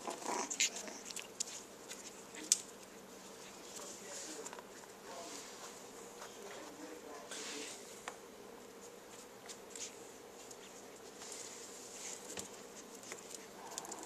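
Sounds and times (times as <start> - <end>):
faint buzzing hum: 0.0 - 14.0.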